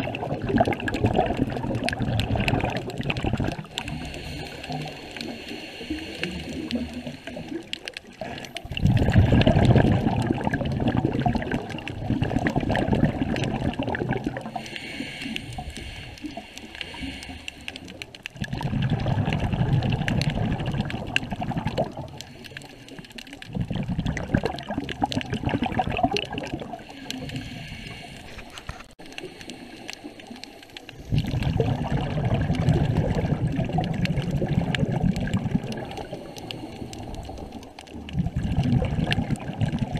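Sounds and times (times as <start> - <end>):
diver exhaling bubbles underwater: 0.0 - 28.6, 29.2 - 39.9.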